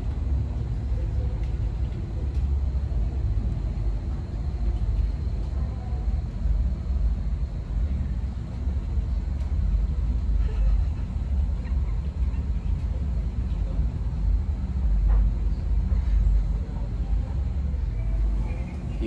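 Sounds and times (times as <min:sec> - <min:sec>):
low room noise rumble: 0:00.0 - 0:19.0.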